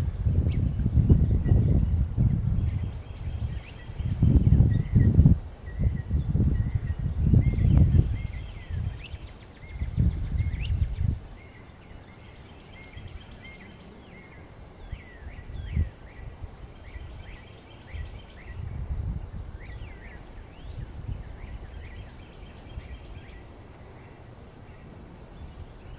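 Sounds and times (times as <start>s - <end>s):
bird singing whistled notes: 0.0s - 25.9s.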